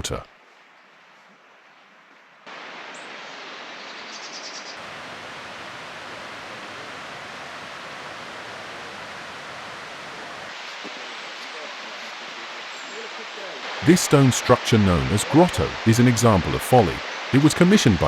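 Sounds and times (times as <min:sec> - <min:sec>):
water rushing: 0:02.4 - 0:18.0.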